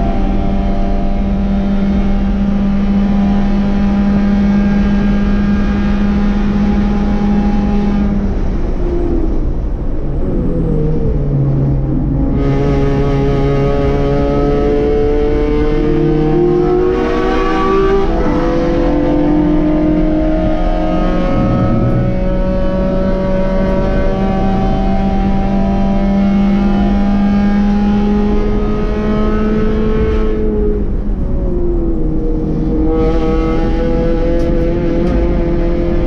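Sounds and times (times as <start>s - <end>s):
race car engine full throttle: 0.0s - 36.0s
road noise: 0.0s - 36.0s
wind noise: 0.0s - 36.0s.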